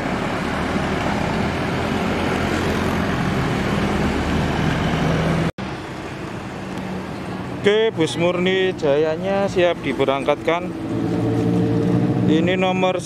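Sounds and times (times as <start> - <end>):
bus diesel engine driving past: 0.0 - 13.0.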